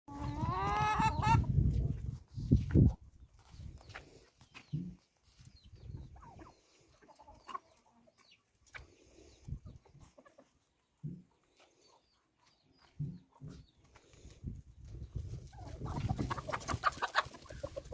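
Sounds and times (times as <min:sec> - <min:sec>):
chickens clucking and chirping: 0:00.1 - 0:17.9.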